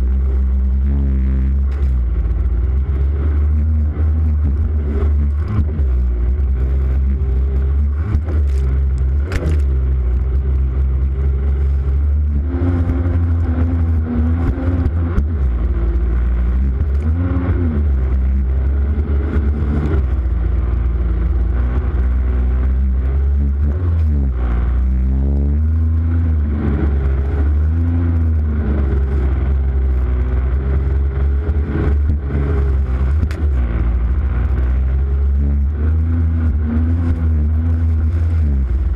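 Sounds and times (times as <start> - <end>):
jet ski engine revving: 0.0 - 38.9
low rumble: 0.0 - 38.9.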